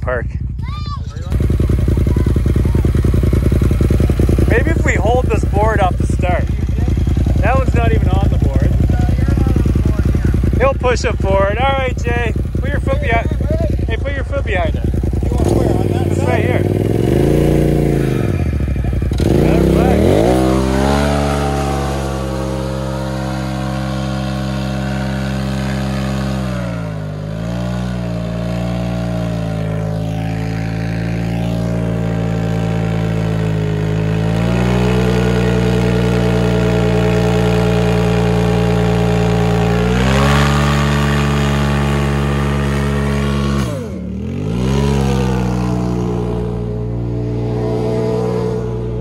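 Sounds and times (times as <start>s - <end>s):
tires spinning: 0.0s - 49.0s
engine revving high: 1.3s - 49.0s.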